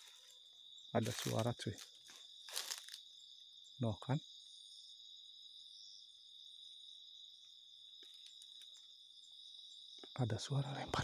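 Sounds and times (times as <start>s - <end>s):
crickets and insects chirping: 0.0s - 11.0s.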